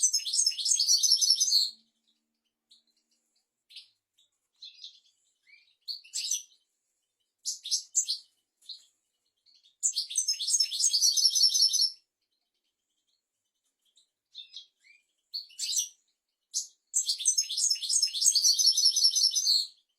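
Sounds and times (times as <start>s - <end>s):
finch singing: 0.0s - 19.9s.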